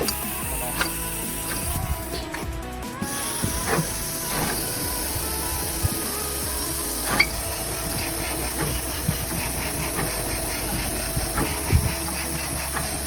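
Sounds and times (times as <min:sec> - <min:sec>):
router machine hissing and humming: 0:00.0 - 0:13.0.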